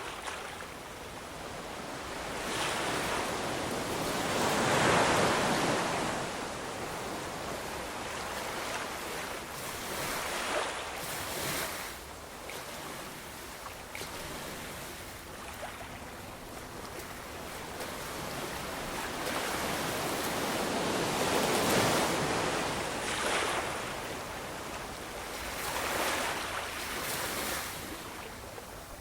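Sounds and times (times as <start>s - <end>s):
ocean waves breaking on shore: 0.0s - 29.0s.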